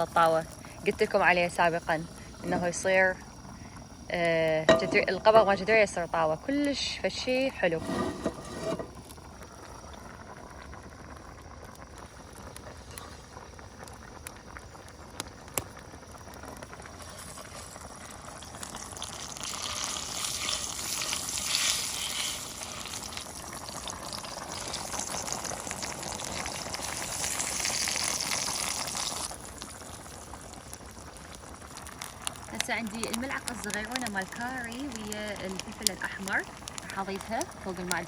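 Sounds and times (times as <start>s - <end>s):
tomato paste sizzling: 0.0s - 38.0s.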